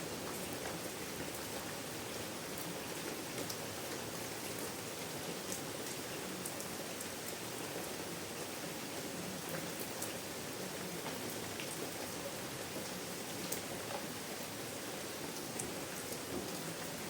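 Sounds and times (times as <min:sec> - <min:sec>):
raindrops ticking on surfaces: 0:00.0 - 0:17.0
steady rain hiss: 0:00.0 - 0:17.0.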